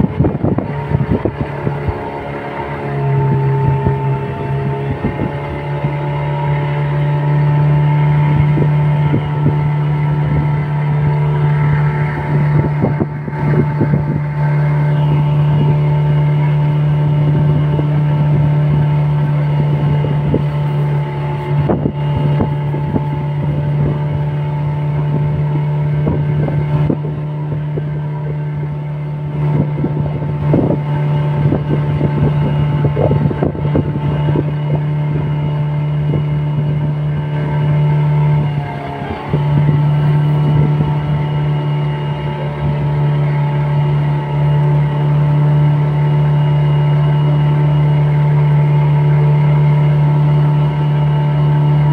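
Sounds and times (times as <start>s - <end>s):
boat engine running: 0.0s - 51.9s
water slapping against hull: 0.0s - 51.9s
wind on microphone: 0.0s - 51.9s.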